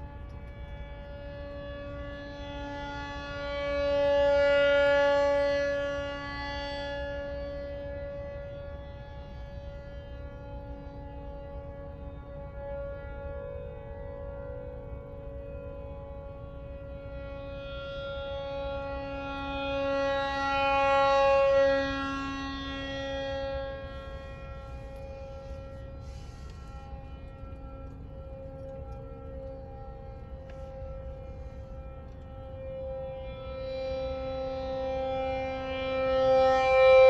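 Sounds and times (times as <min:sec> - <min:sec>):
outdoor warning siren steady tone: 0:00.0 - 0:37.0.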